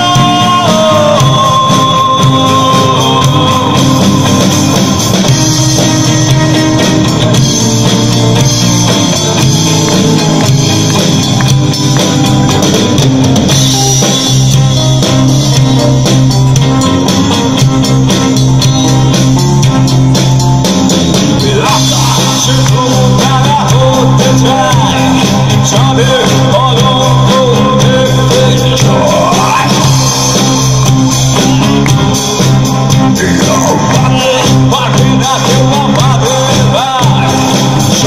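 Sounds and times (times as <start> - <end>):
live band playing: 0.0 - 38.0.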